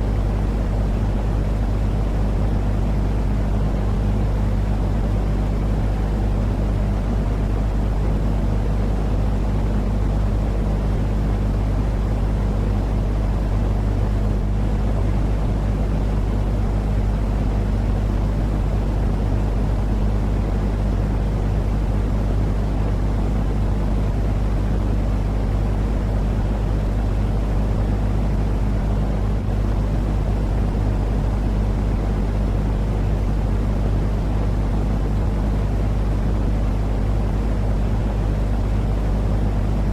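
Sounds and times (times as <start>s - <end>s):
low droning noise with hum: 0.0s - 39.9s.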